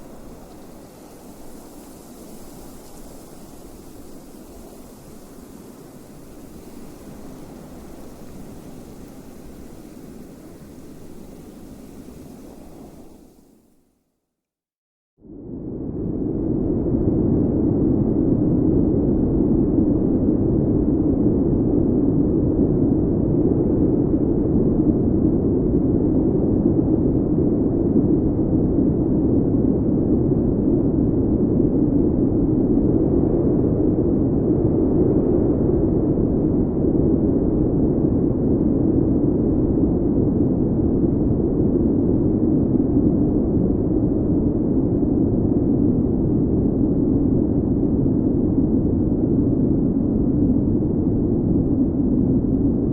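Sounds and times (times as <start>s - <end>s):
muffled low wind rush: 0.0s - 13.8s, 15.2s - 52.9s.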